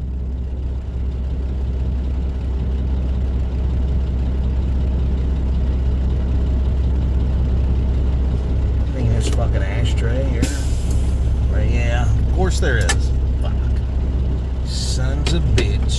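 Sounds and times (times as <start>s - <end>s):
truck diesel engine rumble: 0.0s - 15.9s.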